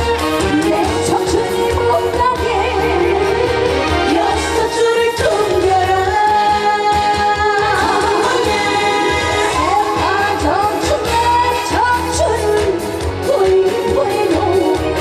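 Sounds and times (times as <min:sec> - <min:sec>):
live band accompaniment: 0:00.0 - 0:15.0
woman singing: 0:00.2 - 0:15.0.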